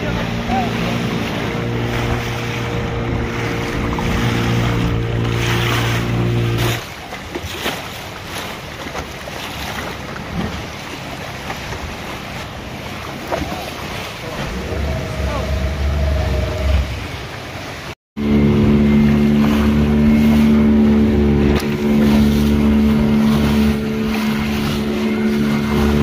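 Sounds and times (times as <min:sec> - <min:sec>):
boat motor running: 0:00.0 - 0:26.0
waves: 0:00.0 - 0:26.0.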